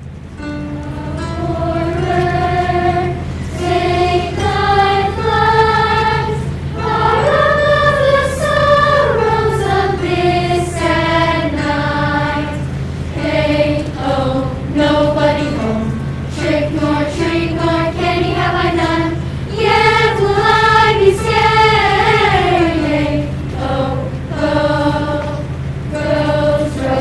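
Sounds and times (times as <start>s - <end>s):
steady low hum: 0.0s - 27.0s
group singing slow melody: 0.4s - 27.0s.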